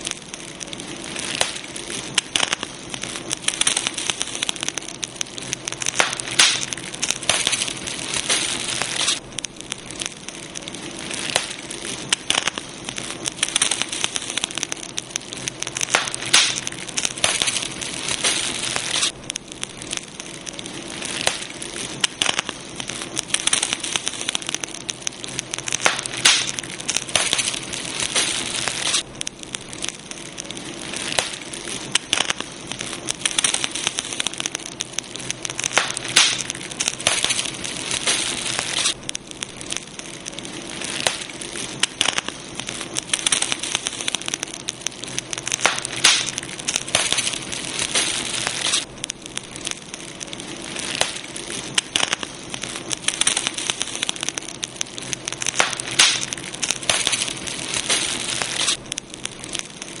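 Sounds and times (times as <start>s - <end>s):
campfire crackling and popping: 0.0s - 60.0s.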